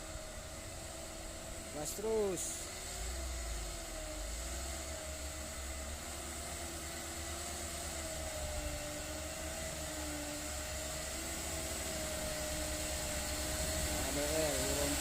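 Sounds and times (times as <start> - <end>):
wavering engine whine: 0.0 - 15.0.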